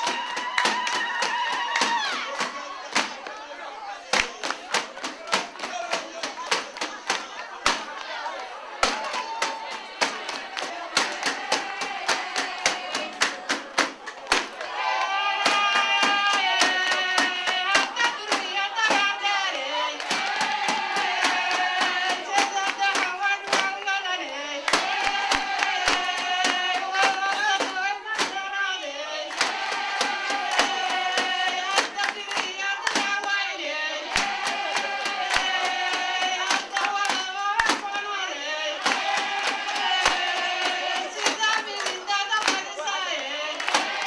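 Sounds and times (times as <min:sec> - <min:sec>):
drum beats: 0:00.0 - 0:03.4, 0:04.1 - 0:08.2, 0:08.8 - 0:44.0
rapid hand clapping: 0:00.0 - 0:03.5, 0:04.1 - 0:28.6, 0:29.3 - 0:38.2, 0:38.8 - 0:44.0
voices singing: 0:00.0 - 0:44.0.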